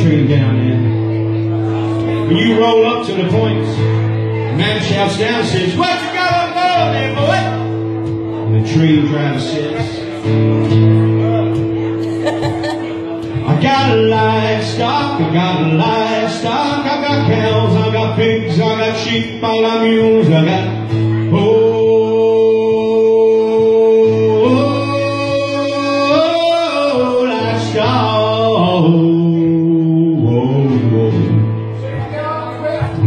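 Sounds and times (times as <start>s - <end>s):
man singing: 0.0s - 1.1s, 2.0s - 3.9s, 4.5s - 11.4s, 12.0s - 33.0s
strummed acoustic guitar: 0.0s - 33.0s.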